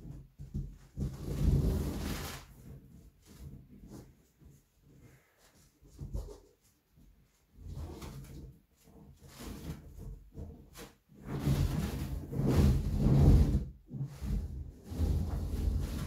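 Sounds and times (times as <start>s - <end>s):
vinyl exercise balls rubbing: 0.0s - 16.0s.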